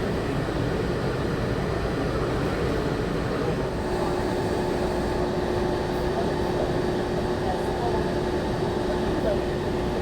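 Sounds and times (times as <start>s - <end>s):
train rumble and hiss: 0.0s - 10.0s.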